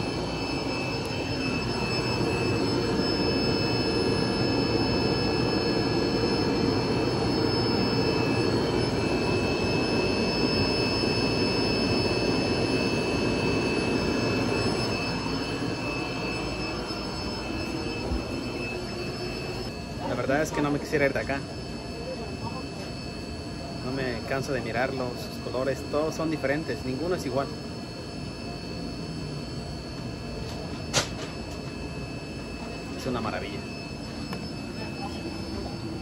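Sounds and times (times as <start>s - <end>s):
faint steady high whine: 0.0s - 36.0s.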